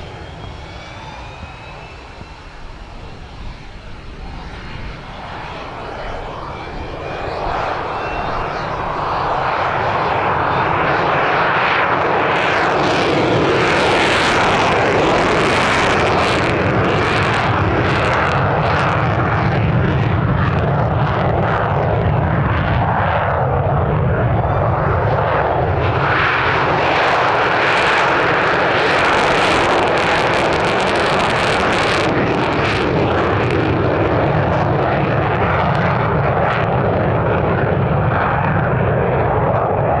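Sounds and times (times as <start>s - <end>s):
jet engine running with crackle: 0.0s - 40.0s.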